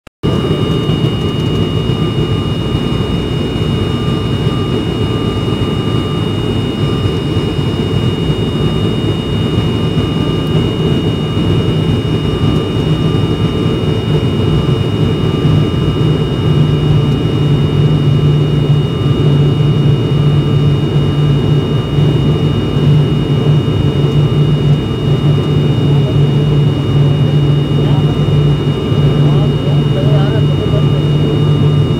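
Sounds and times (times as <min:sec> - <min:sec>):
high whine: 0:00.2 - 0:31.9
propeller and engine drone: 0:00.2 - 0:31.9.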